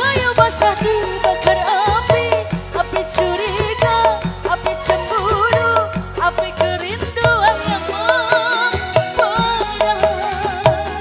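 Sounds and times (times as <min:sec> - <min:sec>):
bass: 0:00.0 - 0:11.0
electronic keyboard: 0:00.0 - 0:11.0
hand drums beat: 0:00.0 - 0:11.0
woman singing: 0:00.0 - 0:11.0.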